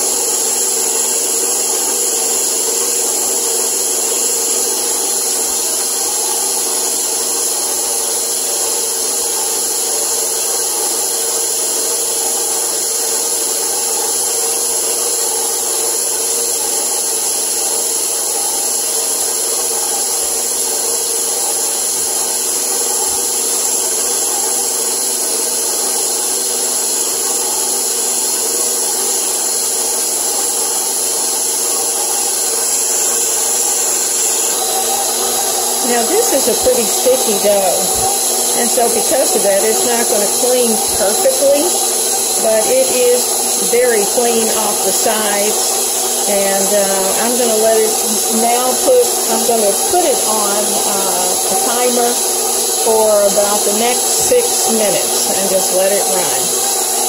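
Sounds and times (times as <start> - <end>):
stand mixer motor humming: 0.0 - 57.0.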